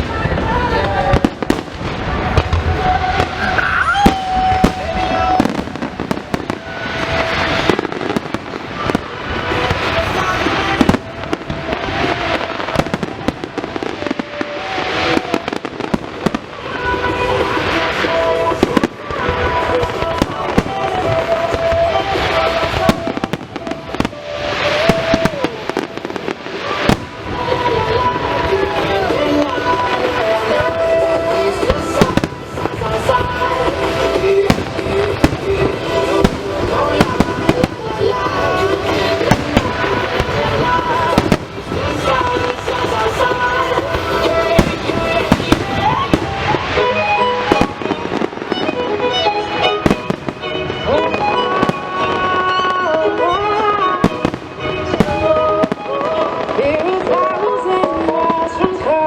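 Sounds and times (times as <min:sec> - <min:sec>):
fireworks bangs: 0:00.0 - 0:59.0
fireworks crackling: 0:00.0 - 0:59.0.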